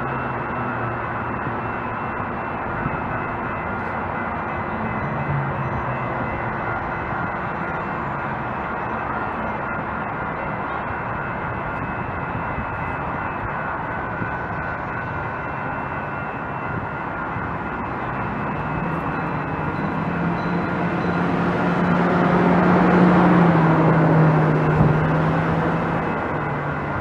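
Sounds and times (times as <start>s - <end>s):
train rumble and rail noise: 0.0s - 27.0s.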